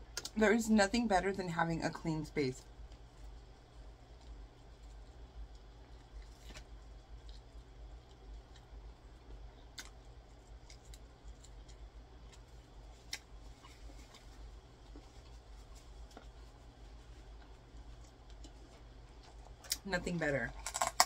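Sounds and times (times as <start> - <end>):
steady low hum: 0.0 - 21.0
chewing crispy chicken: 2.9 - 19.8.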